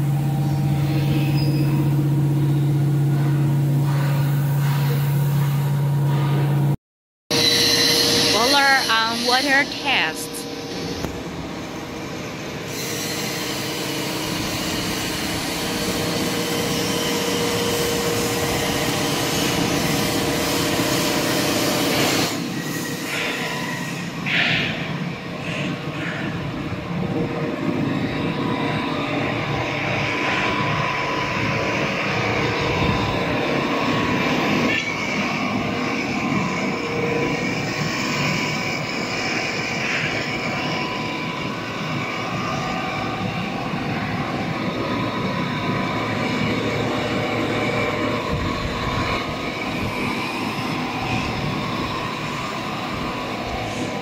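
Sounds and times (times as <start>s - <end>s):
factory machinery din: 0.0s - 54.0s.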